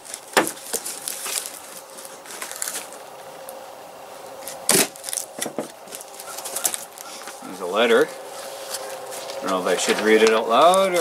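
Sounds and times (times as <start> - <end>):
cardboard and tape crackling: 0.0 - 11.0.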